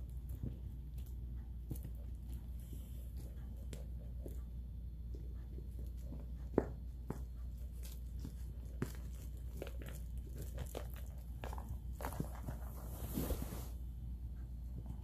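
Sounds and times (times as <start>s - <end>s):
puppy chewing plush toy: 0.0s - 12.8s.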